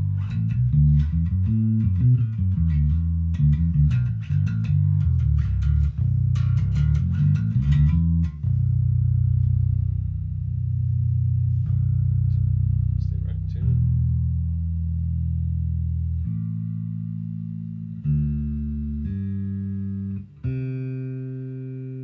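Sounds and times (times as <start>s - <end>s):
electric bass played with fingers: 0.0s - 22.0s.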